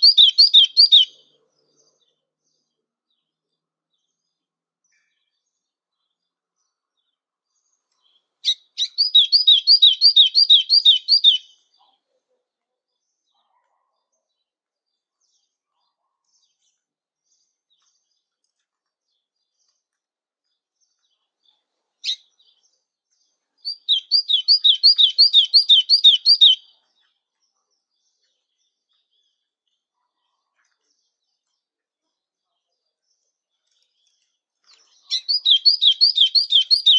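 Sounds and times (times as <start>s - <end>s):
bird song phrases: 0.0s - 36.9s.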